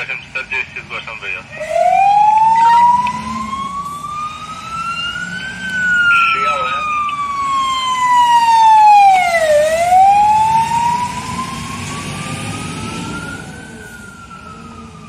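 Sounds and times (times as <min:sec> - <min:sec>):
truck engine rumbling: 0:00.0 - 0:15.0
fire engine siren wailing: 0:01.3 - 0:15.0.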